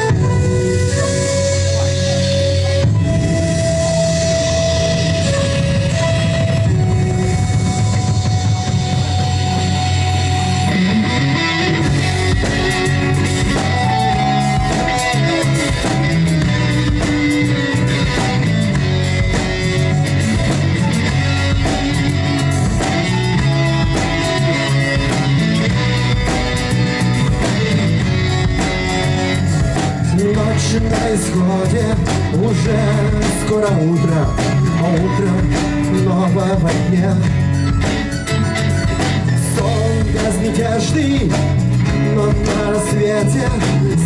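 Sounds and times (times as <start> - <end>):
bass guitar: 0.0 - 44.0
drums: 0.0 - 44.0
electric guitar: 0.0 - 44.0.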